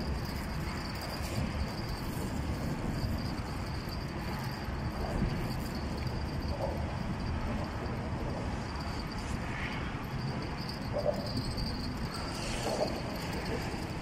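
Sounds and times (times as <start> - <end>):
high-pitched whine: 0.0 - 14.0.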